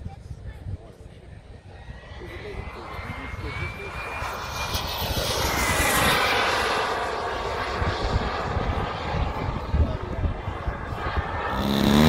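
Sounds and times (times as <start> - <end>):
wind buffeting microphone: 0.0 - 11.7
model airplane motor whine: 1.8 - 12.0.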